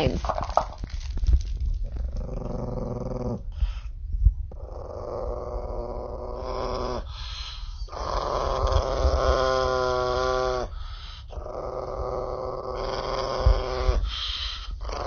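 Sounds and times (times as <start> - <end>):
small dog growling: 1.8 - 3.9, 4.5 - 15.0.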